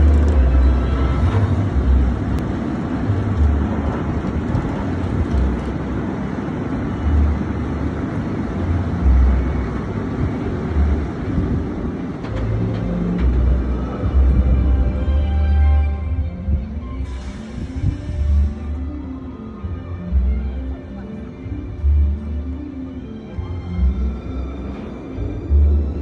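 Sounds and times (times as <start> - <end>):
roller coaster mechanical rumble: 0.0 - 26.0.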